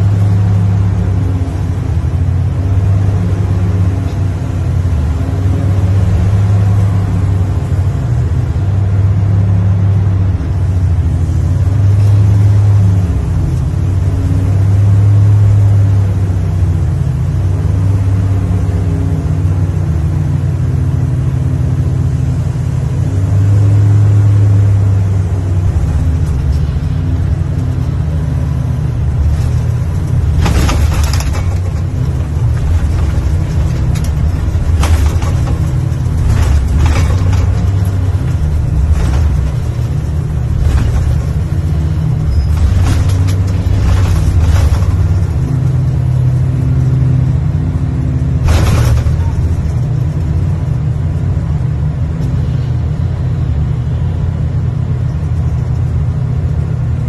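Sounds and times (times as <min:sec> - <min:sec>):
diesel engine and hydraulics drone: 0:00.0 - 0:57.0.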